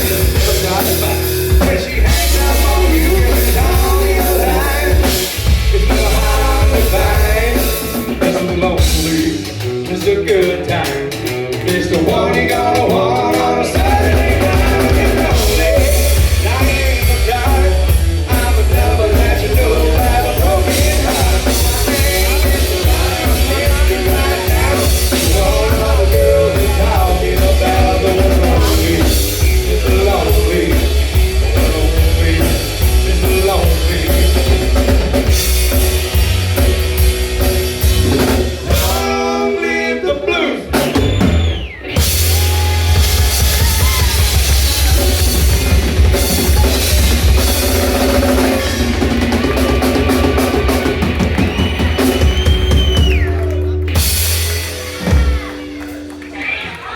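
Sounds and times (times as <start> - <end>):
drum kit beat: 0.0 - 39.5, 40.6 - 56.9
rock band playing: 0.0 - 56.9.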